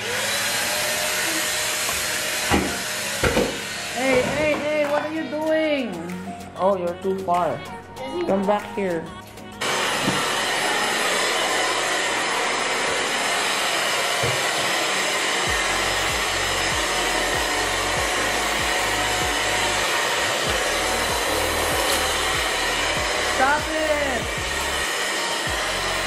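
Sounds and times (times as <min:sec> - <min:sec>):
vacuum cleaner running: 0:00.0 - 0:05.7, 0:09.6 - 0:26.0.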